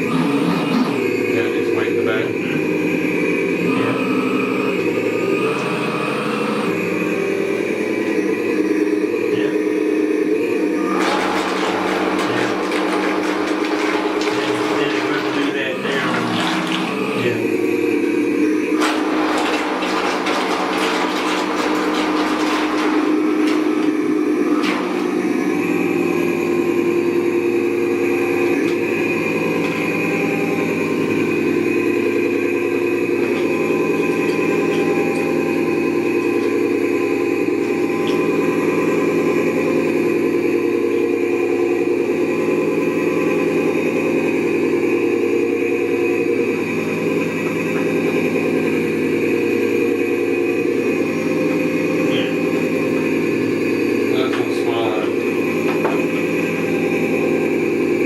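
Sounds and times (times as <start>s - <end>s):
model boat motor whining: 0.0s - 58.0s.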